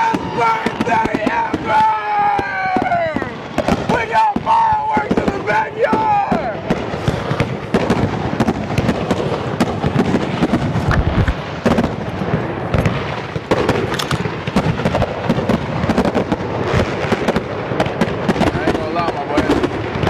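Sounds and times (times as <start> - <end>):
fireworks booming and crackling: 0.0 - 20.0.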